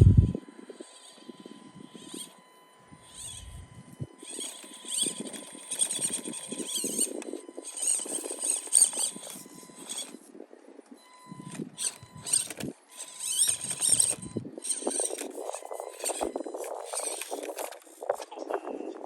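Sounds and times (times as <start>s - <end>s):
toy car electric motor whining: 0.0s - 19.0s.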